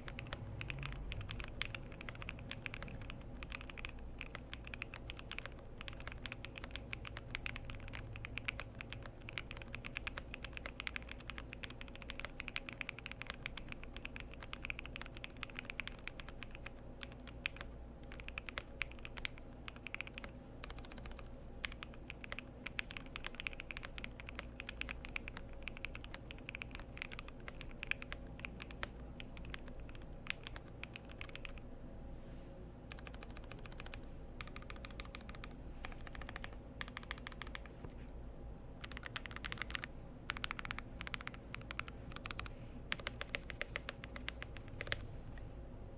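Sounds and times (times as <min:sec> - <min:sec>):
fast typing on mechanical keyboard: 0:00.0 - 0:31.6, 0:32.9 - 0:37.7, 0:38.8 - 0:45.0.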